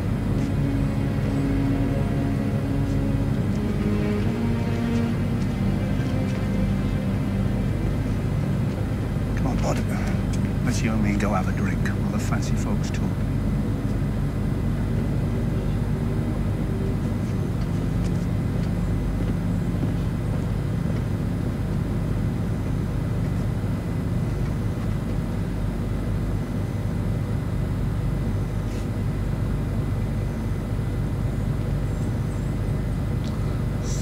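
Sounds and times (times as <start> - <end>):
low rumble of drama soundtrack: 0.0 - 34.0.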